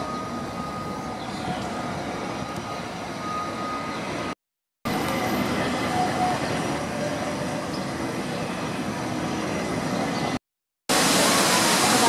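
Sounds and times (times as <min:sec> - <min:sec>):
distant traffic rumble: 0:00.0 - 0:12.0.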